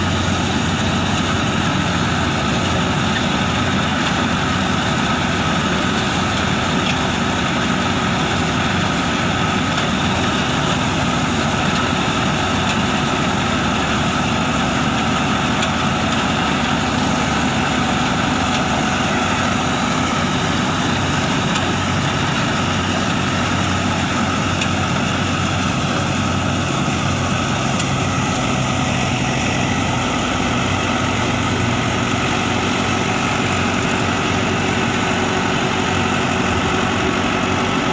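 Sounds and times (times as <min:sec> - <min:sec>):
harvester engine droning: 0:00.0 - 0:37.9.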